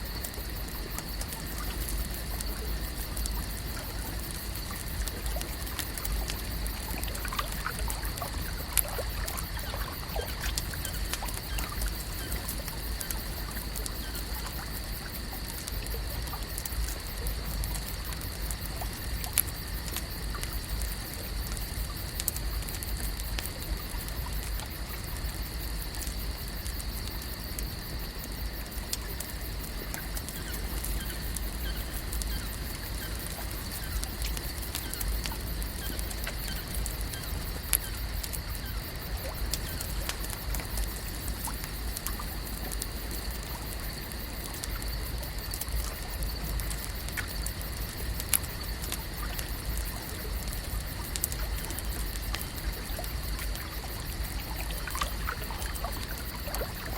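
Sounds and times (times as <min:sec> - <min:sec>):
water noise: 0:00.0 - 0:27.2, 0:27.8 - 0:56.9
small ticks and pops: 0:00.0 - 0:56.9.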